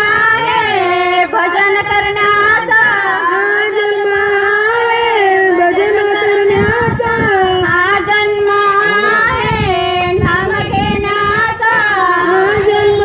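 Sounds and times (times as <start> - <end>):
women singing a devotional chant: 0.0 - 13.0.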